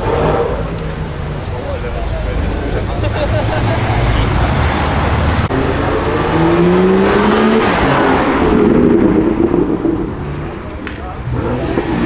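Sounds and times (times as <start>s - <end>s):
car engine accelerating: 0.0s - 12.0s
traffic rushing: 0.0s - 12.0s.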